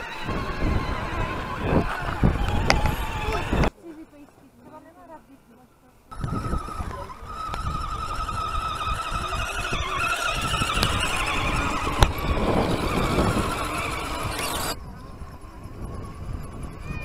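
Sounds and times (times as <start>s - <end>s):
electric motor whining: 0.0s - 3.7s, 6.1s - 17.0s.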